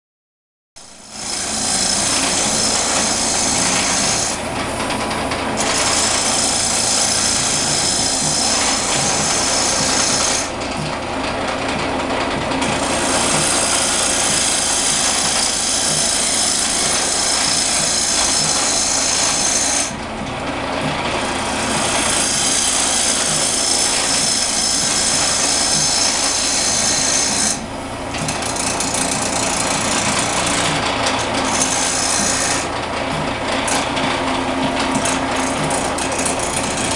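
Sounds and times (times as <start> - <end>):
lathe humming: 0.9 - 36.9
lathe tool cutting wood: 1.0 - 36.9.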